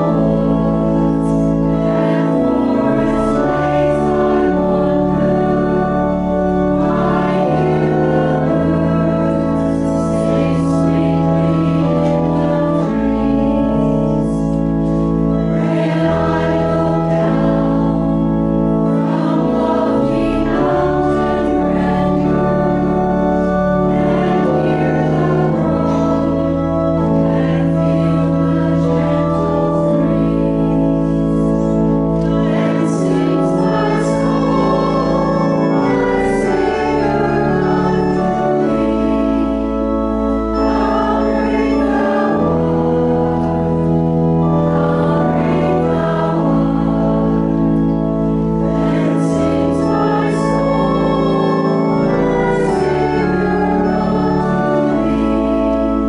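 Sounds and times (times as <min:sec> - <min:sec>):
organ accompaniment: 0:00.0 - 0:56.0
voices singing a hymn: 0:00.0 - 0:56.0.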